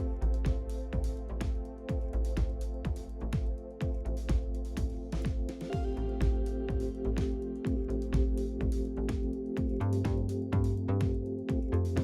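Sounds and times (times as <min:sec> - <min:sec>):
deep kick drum beat: 0:00.0 - 0:12.0
held synth chords: 0:00.0 - 0:12.0.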